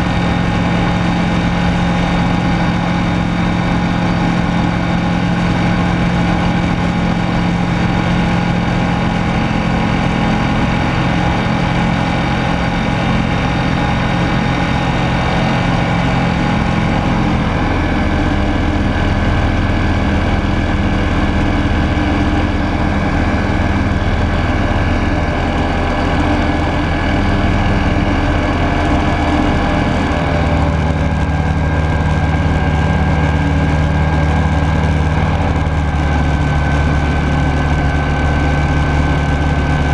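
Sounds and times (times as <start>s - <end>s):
aircraft engine and propeller running: 0.0s - 39.9s.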